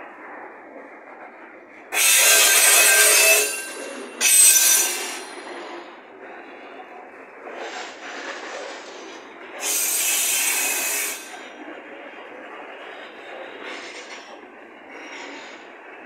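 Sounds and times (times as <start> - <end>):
train wheels screeching on rail: 0.2 - 16.0
freight train wheels clattering: 0.4 - 16.0.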